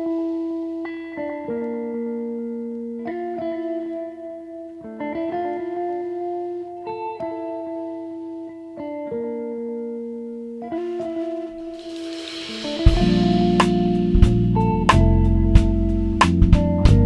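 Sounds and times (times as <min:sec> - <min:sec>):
plucked guitar chords: 0:00.0 - 0:17.0.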